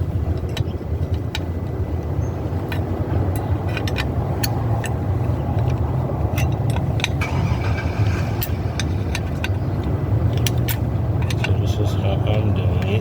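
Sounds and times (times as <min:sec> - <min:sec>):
vehicle engine rumble: 0:00.0 - 0:13.0
light metallic clicks: 0:00.3 - 0:07.6, 0:08.3 - 0:13.0.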